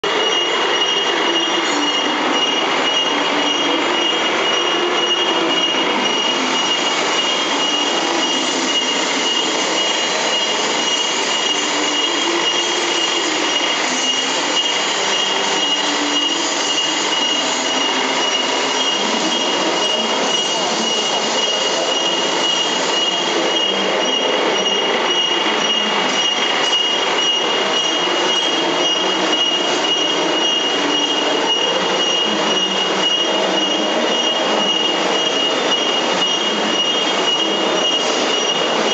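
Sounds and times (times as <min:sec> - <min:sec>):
factory machinery din: 0:00.0 - 0:38.9
high-pitched whine: 0:00.0 - 0:38.9.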